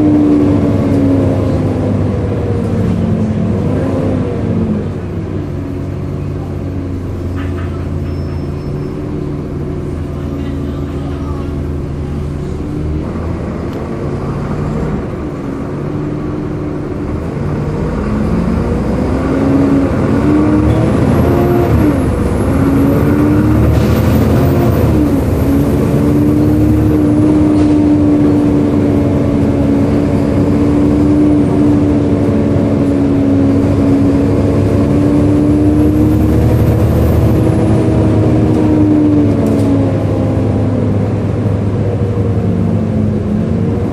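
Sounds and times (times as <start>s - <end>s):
diesel bus engine: 0.0s - 43.9s.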